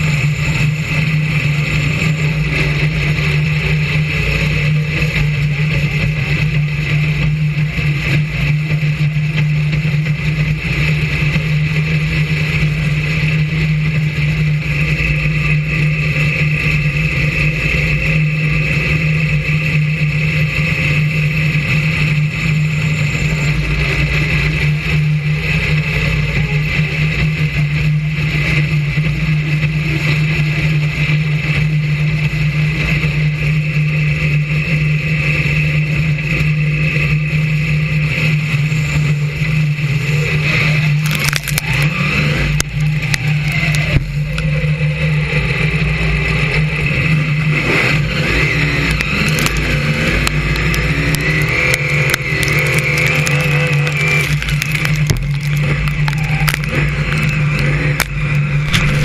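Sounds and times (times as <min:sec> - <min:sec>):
stock car engine running: 0:00.0 - 0:59.0.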